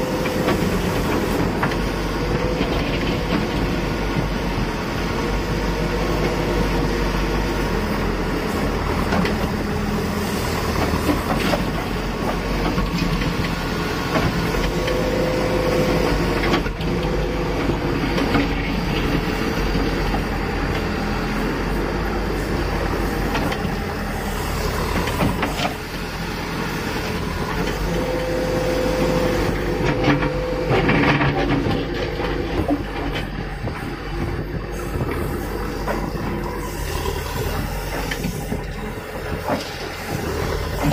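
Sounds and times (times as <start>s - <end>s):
diesel engine under load: 0.0s - 40.9s
hydraulics working: 0.0s - 40.9s.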